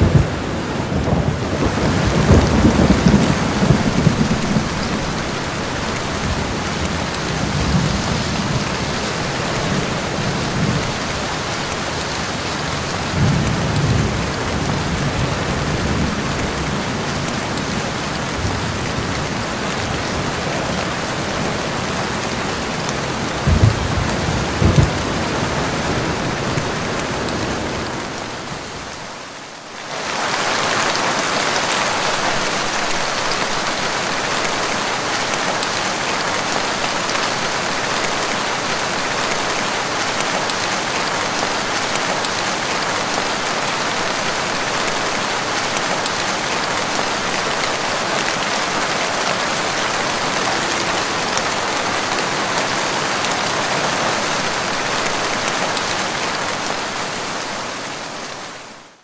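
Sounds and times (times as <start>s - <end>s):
heavy rain pouring onto water: 0.0s - 59.0s.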